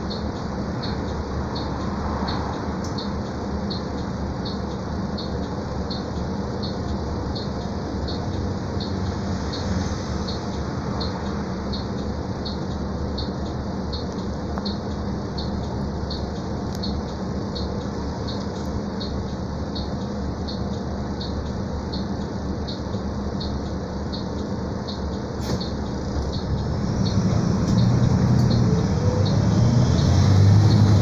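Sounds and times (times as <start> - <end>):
bus diesel engine idling: 0.0 - 31.0.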